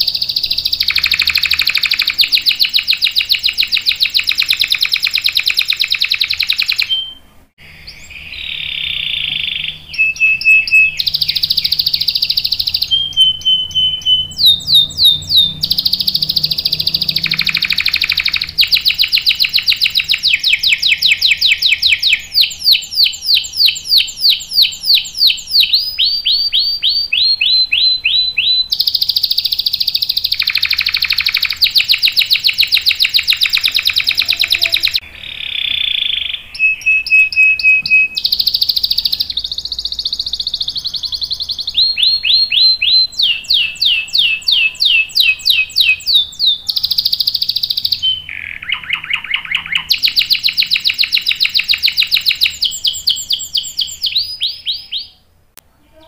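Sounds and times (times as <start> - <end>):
held whistle: 0.0 - 55.2
canary singing trills: 0.0 - 56.0.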